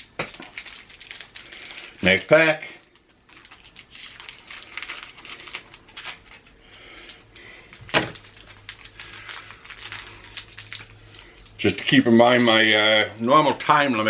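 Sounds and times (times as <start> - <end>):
wax paper pack rustling: 0.0 - 13.8.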